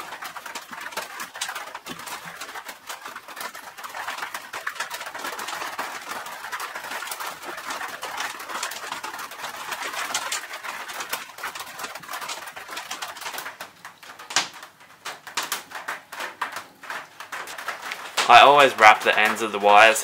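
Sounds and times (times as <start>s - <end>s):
rain on a tin roof: 0.0s - 20.0s.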